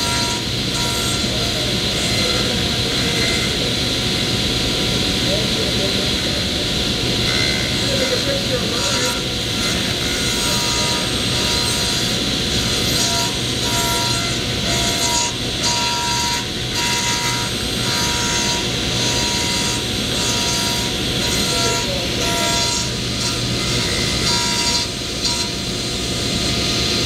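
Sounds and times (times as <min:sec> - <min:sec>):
table saw cutting wood: 0:00.0 - 0:27.0.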